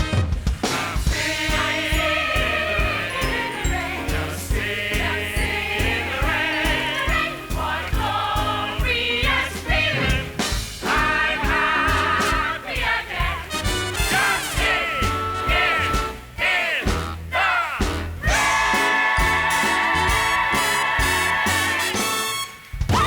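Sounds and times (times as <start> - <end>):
orchestra playing show tune: 0.0 - 23.0
group of voices singing: 0.6 - 23.0.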